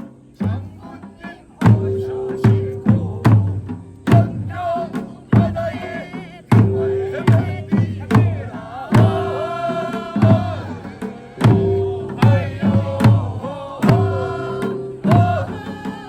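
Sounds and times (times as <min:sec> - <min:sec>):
heavy drum strikes: 0:01.6 - 0:16.0.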